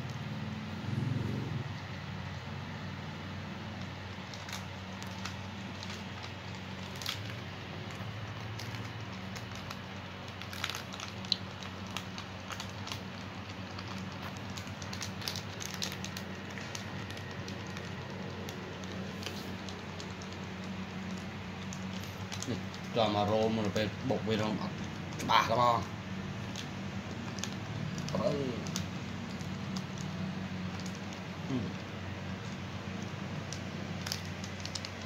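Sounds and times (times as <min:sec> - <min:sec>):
steady low hum: 0:00.0 - 0:35.0
plastic wrapper crinkling: 0:03.6 - 0:35.0.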